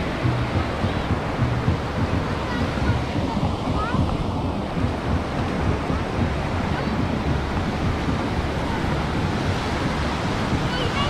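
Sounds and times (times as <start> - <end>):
small waves washing on sand: 0.0 - 11.0
wind rumbling on microphone: 0.0 - 11.0.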